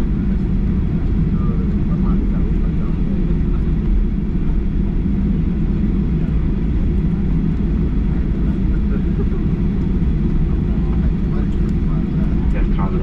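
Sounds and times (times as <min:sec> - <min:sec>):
aircraft engines at low power: 0:00.0 - 0:13.0.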